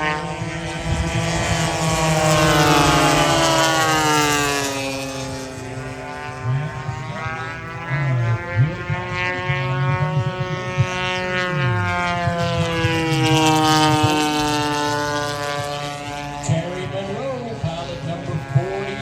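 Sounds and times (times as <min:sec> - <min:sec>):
model plane engine passing: 0:00.0 - 0:19.0.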